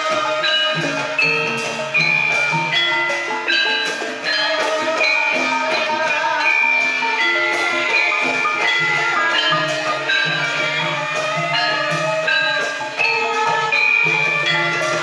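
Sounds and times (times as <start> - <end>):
gamelan ensemble playing: 0.0 - 15.0.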